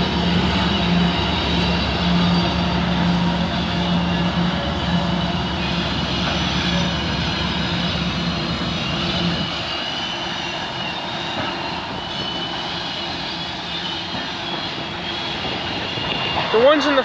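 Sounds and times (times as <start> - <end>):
diesel locomotive drone: 0.0 - 17.0
freight cars rumbling by: 0.0 - 17.0
high-pitched wheel squeal: 0.0 - 17.0.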